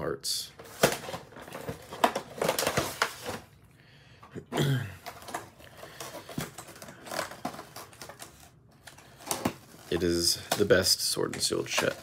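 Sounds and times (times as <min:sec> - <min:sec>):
packaging crinkling: 0:00.6 - 0:03.4, 0:05.0 - 0:12.0.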